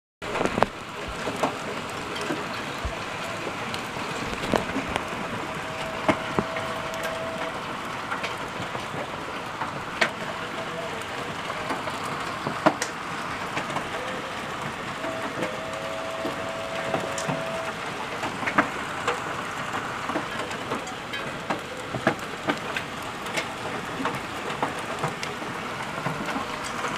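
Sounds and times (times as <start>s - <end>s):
hail pattering: 0.2s - 26.9s
hailstones cracking on hard surface: 0.2s - 26.9s.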